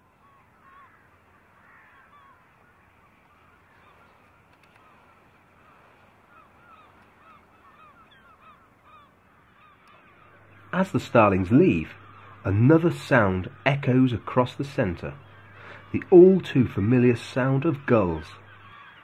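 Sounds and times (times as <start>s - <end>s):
distant gulls calling: 0.0s - 19.0s.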